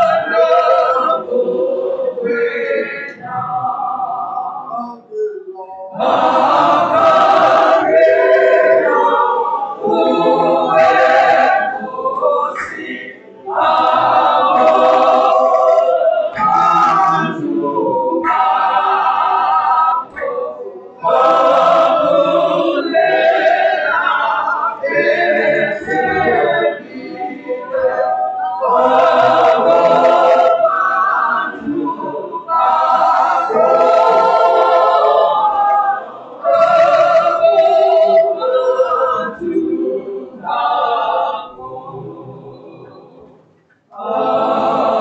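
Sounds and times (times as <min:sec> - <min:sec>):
choir singing a hymn: 0:00.0 - 0:45.0.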